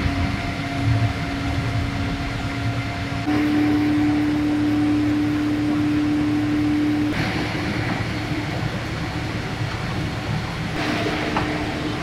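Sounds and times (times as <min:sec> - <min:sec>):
held hum: 0:00.0 - 0:12.0
jet engine rumble: 0:00.0 - 0:12.0.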